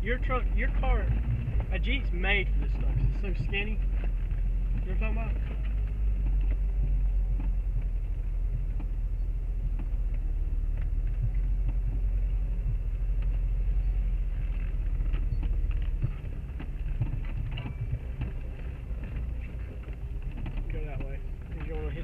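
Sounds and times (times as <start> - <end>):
knocks and rattles of bouncing body: 0.0 - 22.0
low engine rumble: 0.0 - 22.0.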